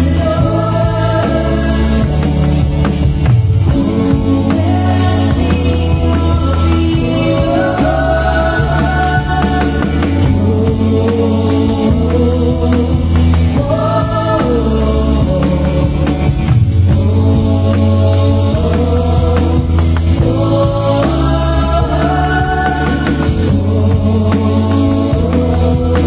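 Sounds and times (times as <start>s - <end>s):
steady bass line: 0.0s - 26.0s
voices singing gospel song: 0.0s - 26.0s.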